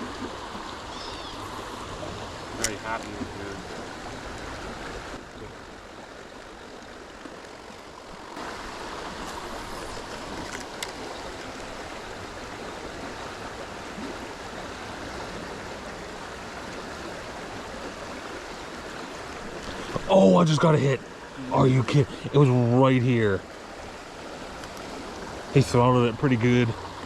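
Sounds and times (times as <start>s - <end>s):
creek water running: 0.0s - 27.0s.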